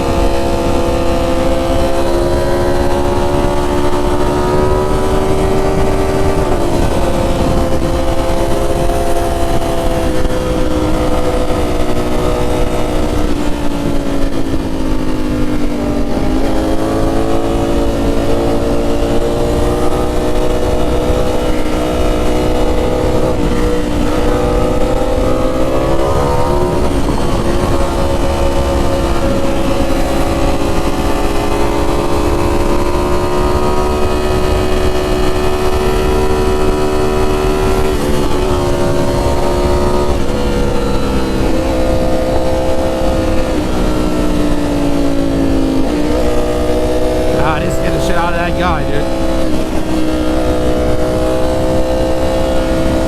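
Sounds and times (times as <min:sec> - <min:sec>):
low rush of wind noise: 0:00.0 - 0:53.0
motorcycle engine on the move: 0:00.0 - 0:53.0.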